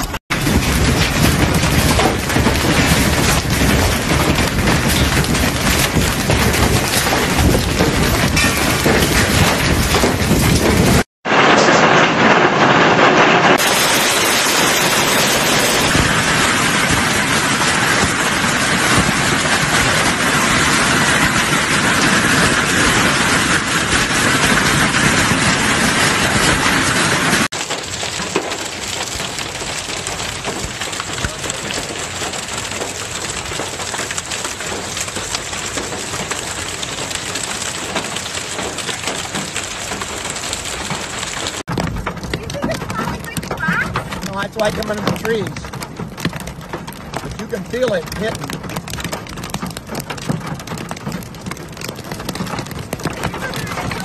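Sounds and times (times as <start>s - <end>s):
heavy hail falling: 0.0s - 54.0s.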